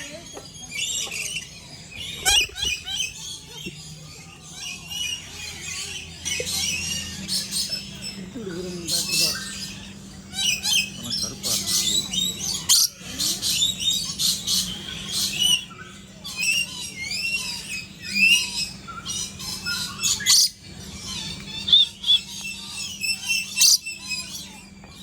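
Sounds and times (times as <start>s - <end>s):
birds chirping and whistling: 0.0s - 25.0s
harsh bird calls: 0.0s - 25.0s.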